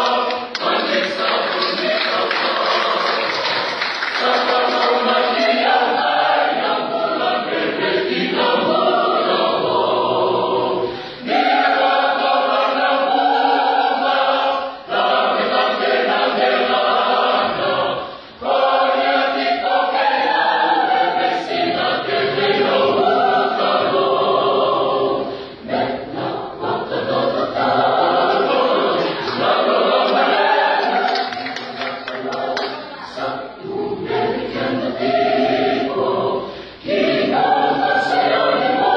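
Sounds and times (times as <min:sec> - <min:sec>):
choir singing a hymn unaccompanied: 0:00.0 - 0:38.9.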